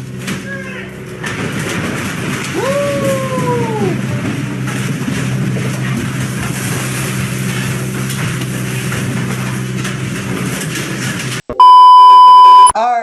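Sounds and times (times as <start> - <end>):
diesel engine running: 0.0 - 11.4.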